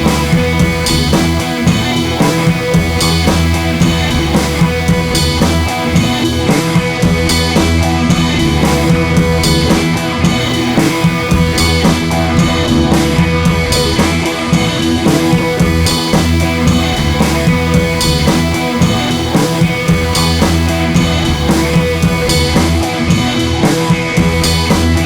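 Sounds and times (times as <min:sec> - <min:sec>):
rock music with drums and guitar: 0:00.0 - 0:25.0.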